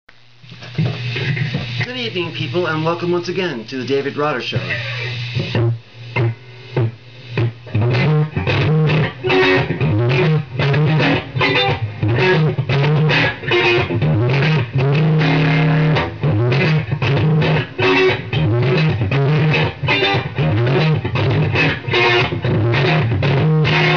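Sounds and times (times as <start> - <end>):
electric guitar riffs: 0.2 - 23.9.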